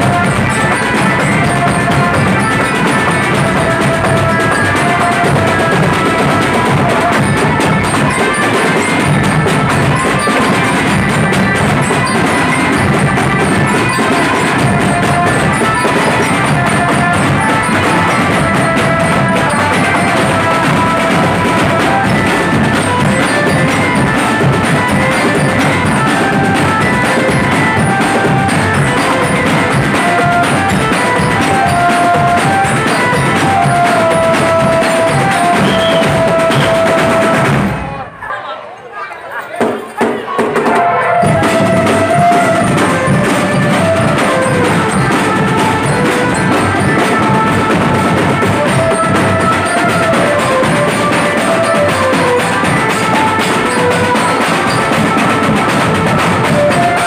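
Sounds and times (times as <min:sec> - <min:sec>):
melody of held notes: 0:00.0 - 0:37.6, 0:40.7 - 0:57.0
massed drums drumming: 0:00.0 - 0:38.2, 0:39.6 - 0:57.0.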